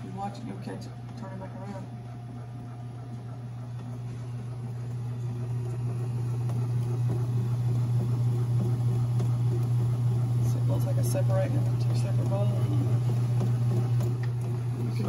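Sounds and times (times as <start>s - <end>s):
bread machine motor humming: 0.0s - 15.0s.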